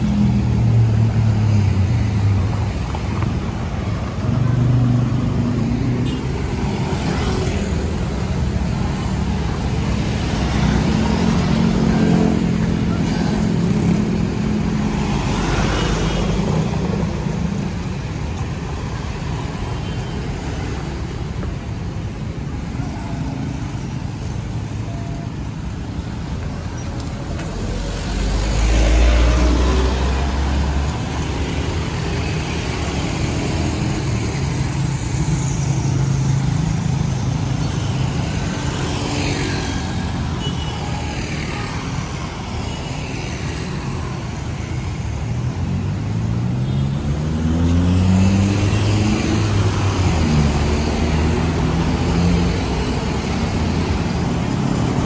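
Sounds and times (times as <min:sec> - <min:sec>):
motorcycles and cars passing: 0:00.0 - 0:55.0.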